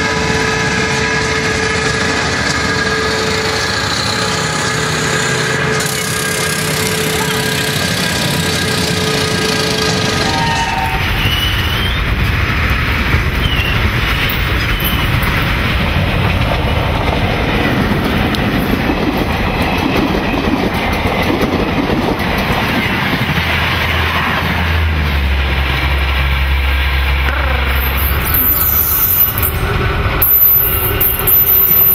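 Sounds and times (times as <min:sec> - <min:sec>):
train rumbling past: 0:00.0 - 0:31.9
wheels clattering over rail joints: 0:05.8 - 0:31.9.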